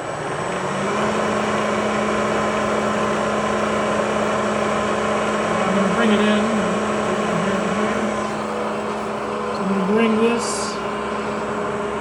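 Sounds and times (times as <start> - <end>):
milling machine motor humming: 0.0 - 12.0.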